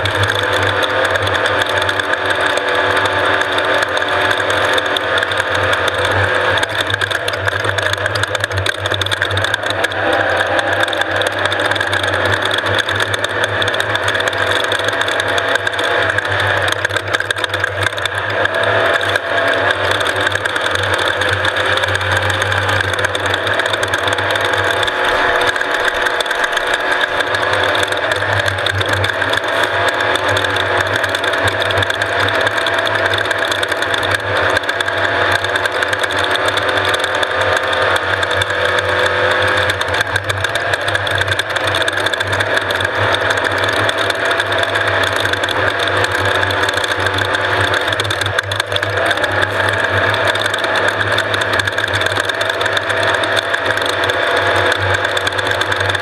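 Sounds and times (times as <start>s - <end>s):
race vehicle engine at speed: 0.0s - 56.0s.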